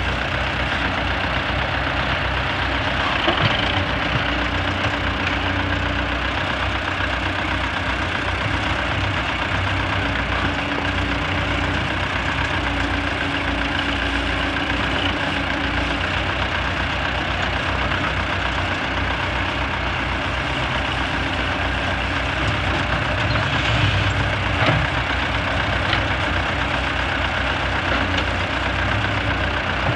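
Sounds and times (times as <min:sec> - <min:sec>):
diesel engines running: 0:00.0 - 0:29.9.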